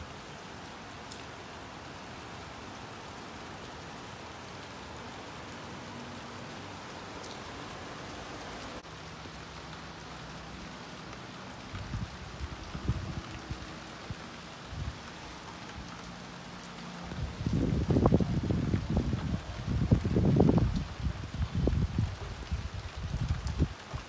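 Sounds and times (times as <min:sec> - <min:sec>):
steady rain on paving: 0:00.0 - 0:24.0.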